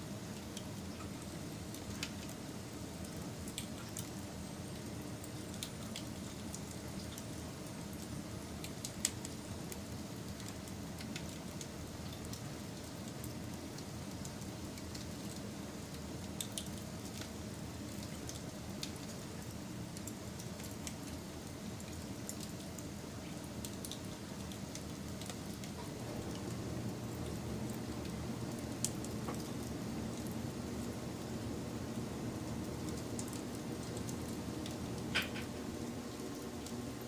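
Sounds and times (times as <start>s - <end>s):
campfire burning rush: 0.3s - 37.0s.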